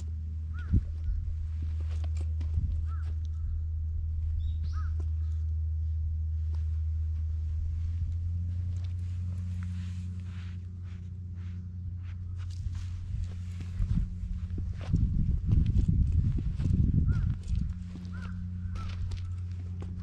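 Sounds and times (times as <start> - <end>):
low rumble: 0.0 - 20.0
footsteps scuffing on road: 0.5 - 3.5, 6.4 - 20.0.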